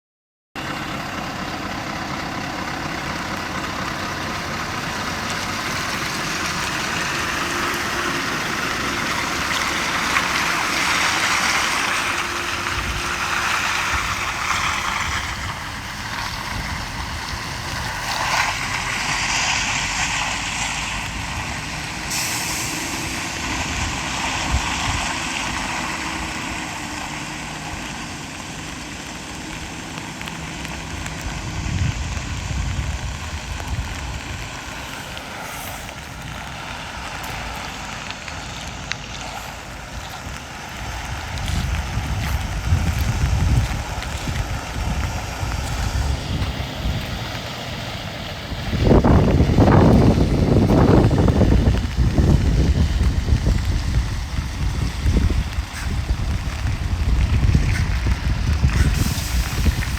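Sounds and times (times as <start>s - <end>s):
continuous rushing noise: 0.6s - 59.9s
truck diesel engine running: 0.6s - 59.9s.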